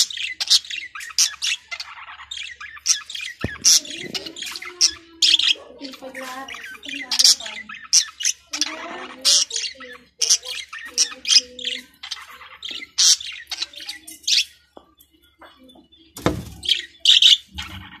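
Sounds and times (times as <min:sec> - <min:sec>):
budgerigar chattering and chirping: 0:00.0 - 0:14.6, 0:16.5 - 0:18.0.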